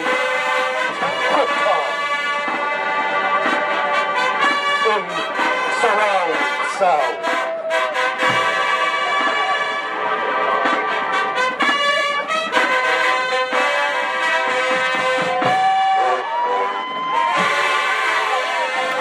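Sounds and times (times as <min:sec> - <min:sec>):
marching band brass chords: 0:00.0 - 0:19.0.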